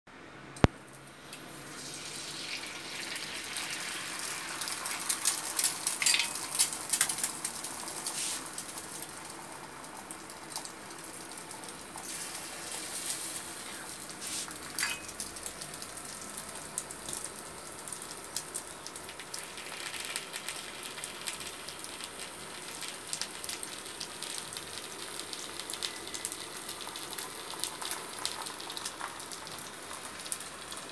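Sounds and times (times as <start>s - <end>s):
egg sizzling in a pan: 0.6s - 30.9s.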